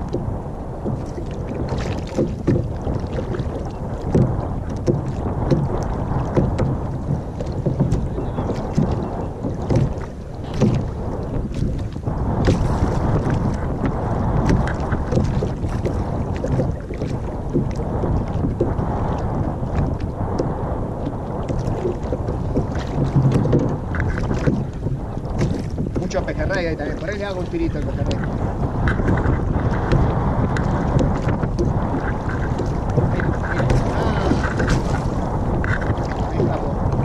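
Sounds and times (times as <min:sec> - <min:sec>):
small waves lapping on kayak hull: 0:00.0 - 0:37.0
wind buffeting microphone: 0:00.0 - 0:37.0.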